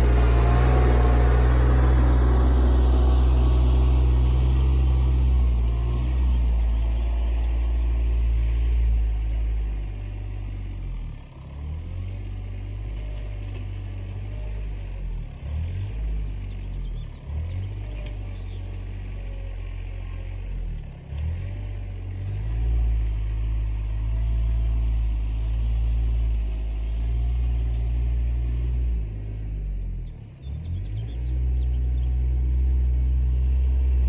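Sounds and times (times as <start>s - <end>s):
tractor engine running: 0.0s - 11.1s, 12.1s - 34.0s.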